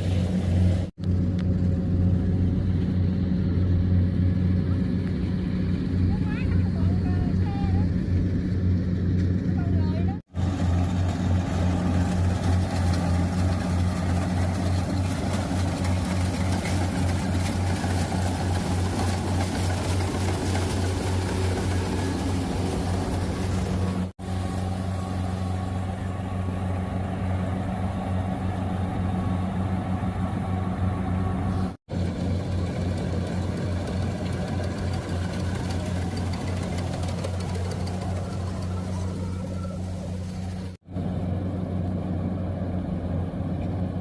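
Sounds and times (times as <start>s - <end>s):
harvester engine drone: 0.0s - 44.0s
rushing mechanical noise: 0.0s - 44.0s.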